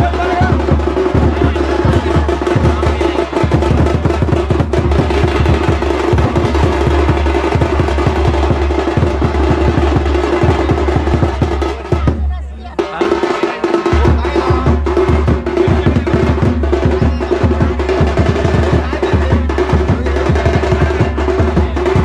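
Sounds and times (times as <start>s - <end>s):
fast dense drumming: 0.0s - 22.0s.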